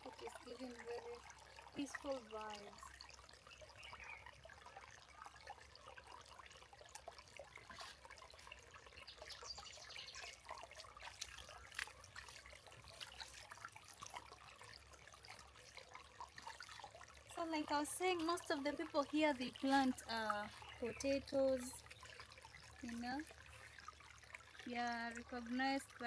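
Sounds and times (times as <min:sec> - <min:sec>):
river trickling: 0:00.0 - 0:26.0.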